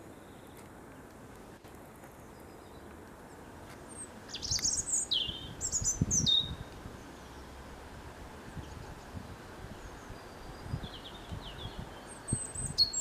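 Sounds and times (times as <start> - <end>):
robin singing: 2.0 - 13.0.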